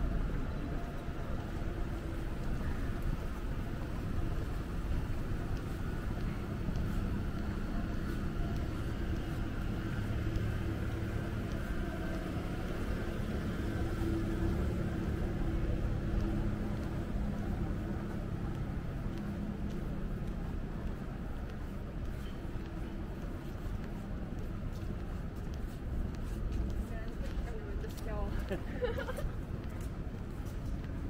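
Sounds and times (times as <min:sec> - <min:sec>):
city street rumble: 0:00.0 - 0:31.0
distant traffic: 0:00.0 - 0:31.0.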